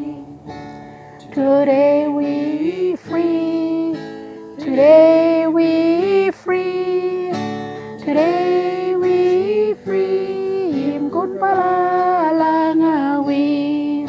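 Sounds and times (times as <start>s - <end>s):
woman singing gospel song: 0.0s - 0.4s, 1.3s - 14.0s
strummed acoustic guitar: 0.0s - 14.0s.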